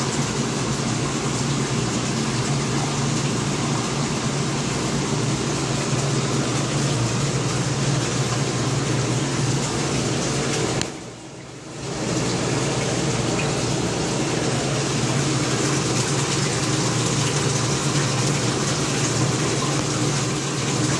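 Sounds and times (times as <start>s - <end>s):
pump hum: 0.0s - 20.9s
rushing water: 0.0s - 20.9s.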